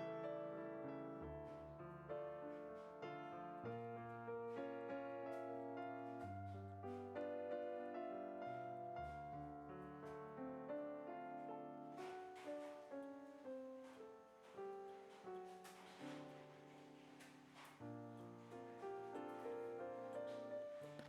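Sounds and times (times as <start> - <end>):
soft piano music: 0.0 - 21.0.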